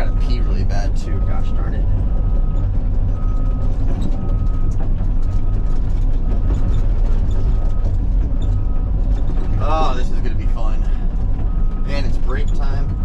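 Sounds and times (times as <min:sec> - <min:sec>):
travel alarm beeping: 0:00.0 - 0:10.6, 0:11.4 - 0:13.0
excavator diesel engine rumble: 0:00.0 - 0:13.0.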